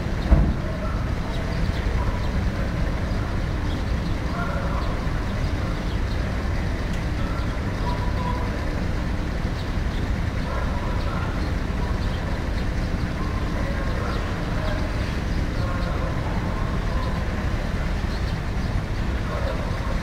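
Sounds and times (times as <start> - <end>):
ship engines rumbling: 0.0 - 20.0
water churning along hull: 0.0 - 20.0.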